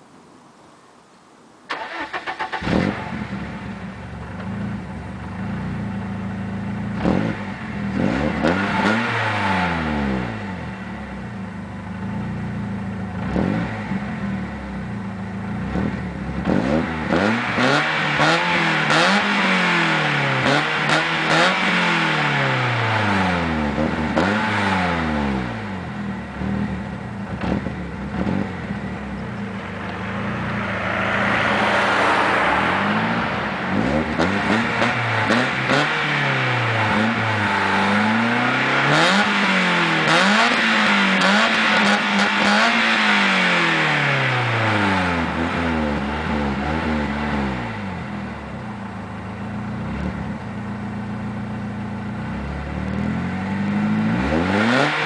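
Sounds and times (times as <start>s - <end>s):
car engine revving: 1.7s - 11.2s, 11.8s - 55.0s.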